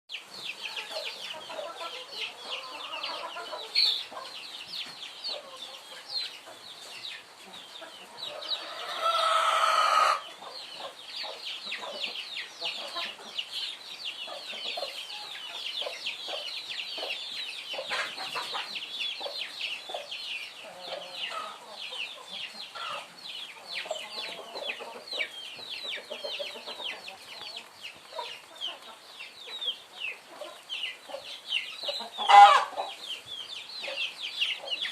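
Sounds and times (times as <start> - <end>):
chickens clucking: 0.1 - 34.9
chicks peeping: 0.1 - 34.9.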